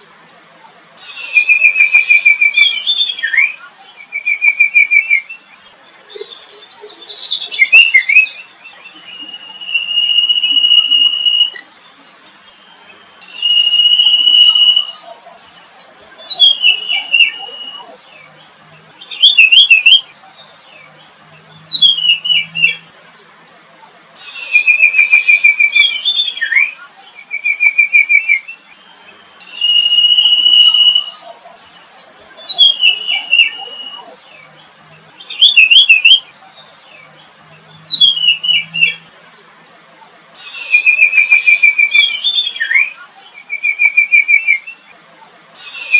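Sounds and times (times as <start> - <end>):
bird song with whistles and trills: 0.0 - 45.9.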